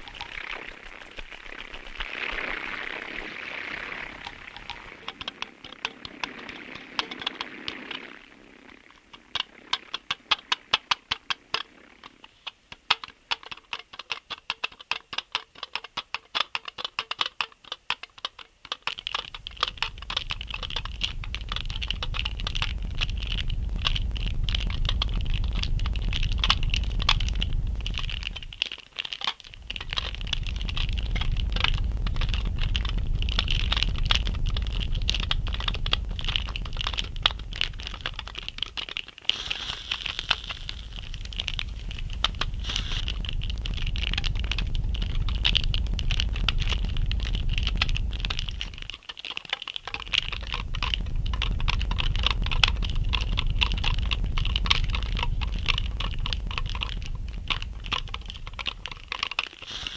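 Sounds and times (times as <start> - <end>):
low steady rumble: 0.0 - 12.3, 19.0 - 28.7, 29.5 - 49.0, 49.8 - 59.9
rapid tapping and clicking: 0.0 - 59.9.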